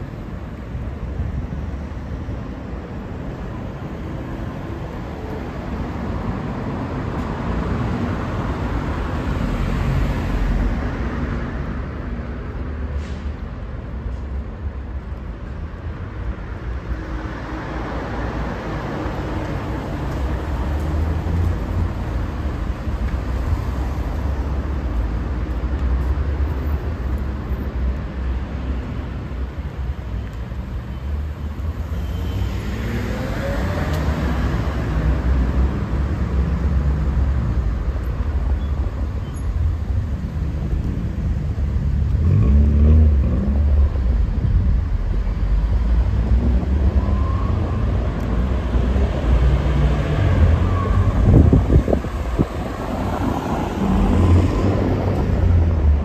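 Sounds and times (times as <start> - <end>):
vehicles driving past: 0.0 - 56.0.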